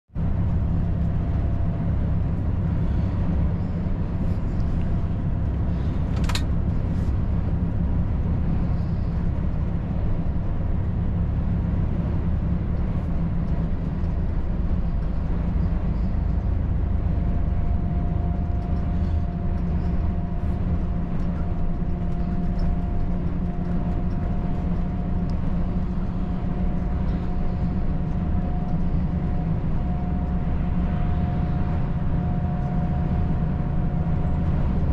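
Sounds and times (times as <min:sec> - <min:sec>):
truck diesel engine drone: 0:00.1 - 0:34.9
faint steady whine: 0:00.2 - 0:34.9.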